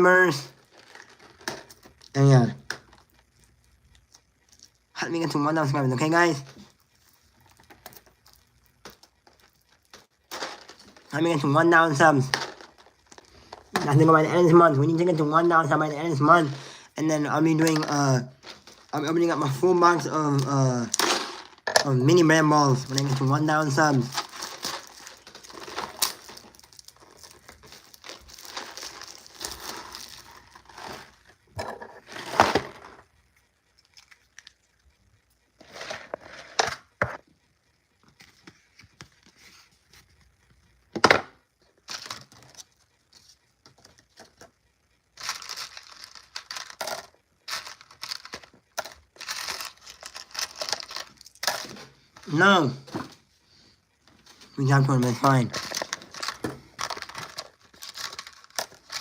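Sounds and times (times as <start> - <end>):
crinkling and rustling: 0.2 - 37.3, 37.9 - 53.4, 54.0 - 59.0.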